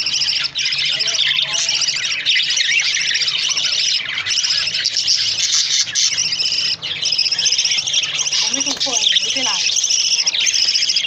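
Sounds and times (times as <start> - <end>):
small birds chirping and chattering: 0.0 - 11.0.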